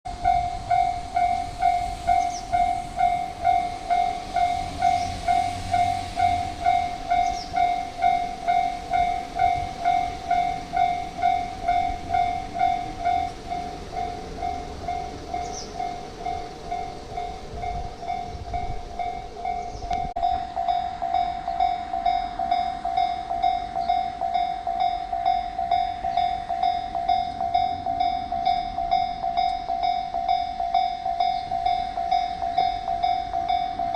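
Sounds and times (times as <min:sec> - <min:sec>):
level crossing warning alarm: 0:00.1 - 0:33.9
passing train rumble: 0:00.1 - 0:33.9.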